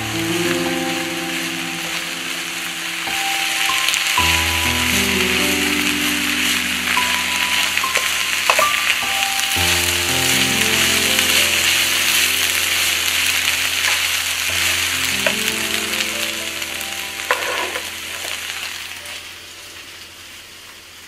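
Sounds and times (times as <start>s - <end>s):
soft background music: 0.0s - 20.8s
vegetables sizzling in oil: 0.0s - 21.0s.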